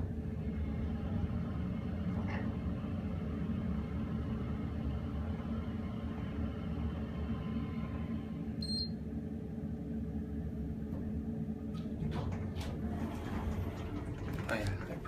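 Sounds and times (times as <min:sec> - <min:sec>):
elevator hum and rumble: 0:00.0 - 0:15.0.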